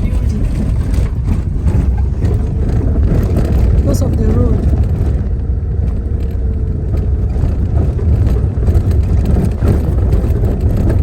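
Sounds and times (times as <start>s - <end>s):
car driving from inside cabin: 0.0s - 11.0s.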